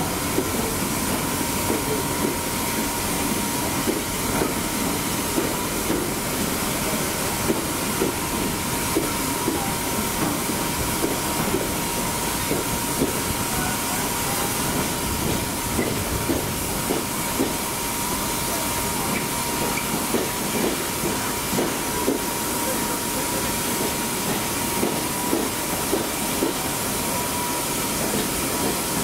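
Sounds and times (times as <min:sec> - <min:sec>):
loud steady hiss: 0:00.0 - 0:29.0.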